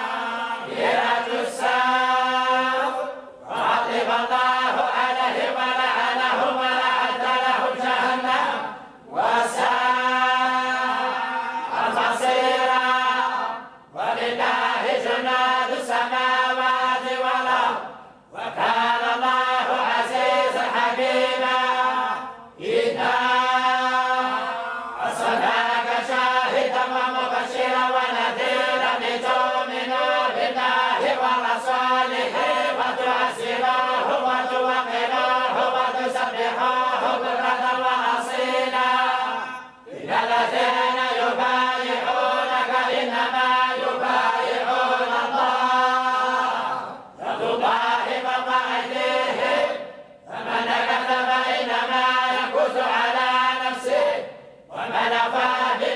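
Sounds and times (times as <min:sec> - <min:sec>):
group chanting in unison: 0:00.0 - 0:55.9.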